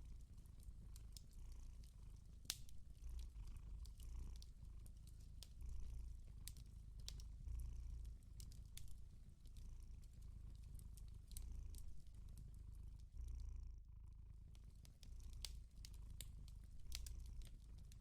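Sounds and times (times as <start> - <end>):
wood fire crackling: 0.0 - 13.2, 14.5 - 18.0
cat purring: 0.0 - 18.0.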